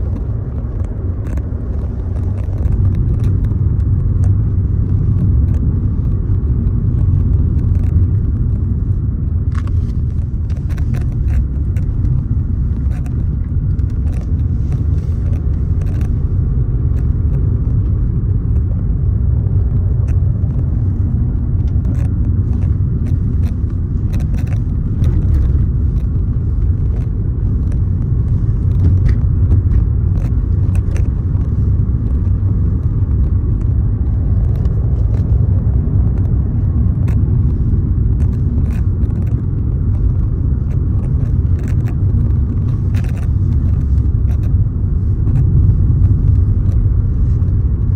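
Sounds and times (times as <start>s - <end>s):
steady low rumble: 0.0s - 47.9s.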